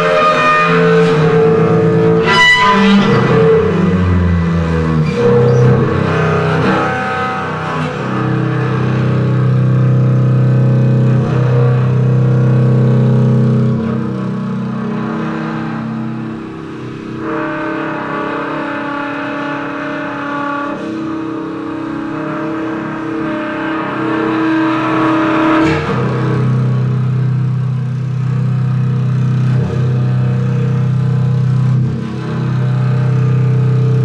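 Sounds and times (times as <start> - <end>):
droning instrumental music: 0.0 - 34.0.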